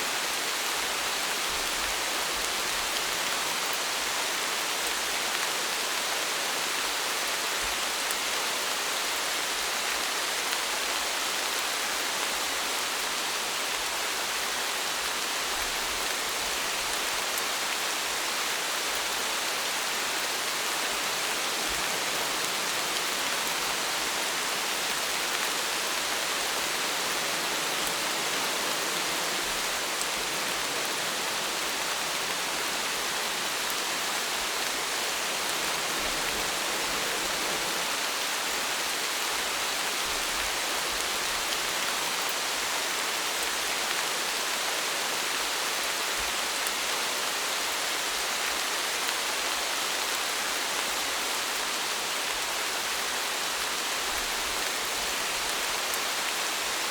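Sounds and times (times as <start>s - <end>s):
steady rain hissing: 0.0s - 56.9s.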